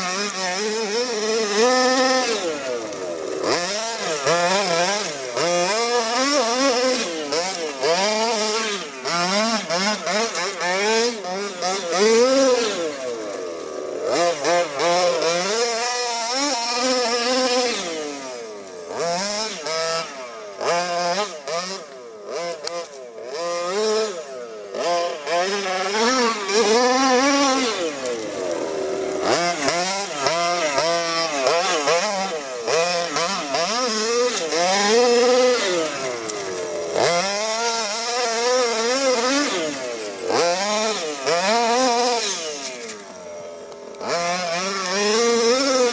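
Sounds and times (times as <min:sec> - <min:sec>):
rc car engine revving: 0:00.0 - 0:45.9.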